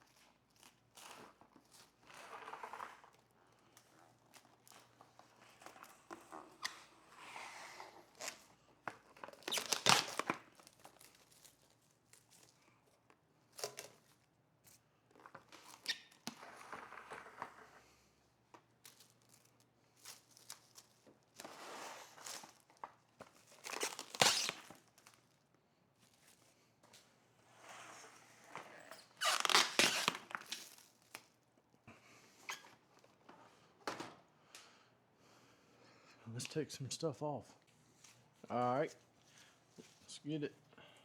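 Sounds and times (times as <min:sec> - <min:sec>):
rustling and crinkling: 0:00.0 - 0:34.3, 0:37.6 - 0:40.2.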